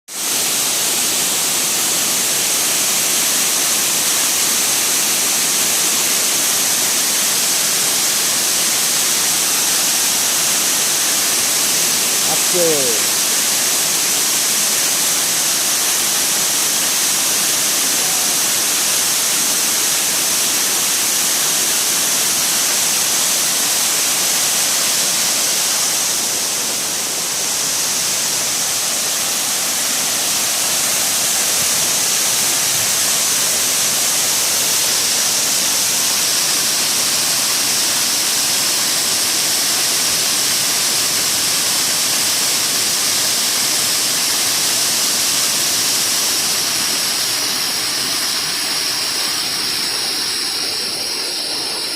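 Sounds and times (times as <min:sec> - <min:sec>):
waterfall rushing: 0:00.1 - 0:51.9.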